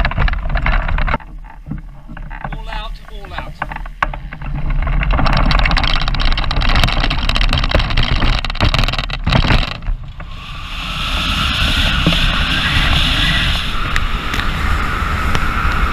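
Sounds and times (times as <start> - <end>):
launch dolly rattling over grass: 0.0 - 14.0
wind on microphone: 0.0 - 15.9.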